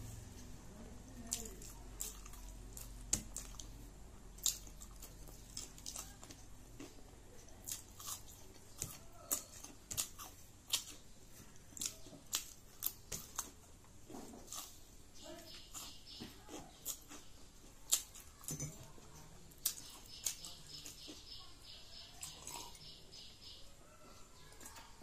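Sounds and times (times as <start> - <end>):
person chewing: 1.2 - 23.6.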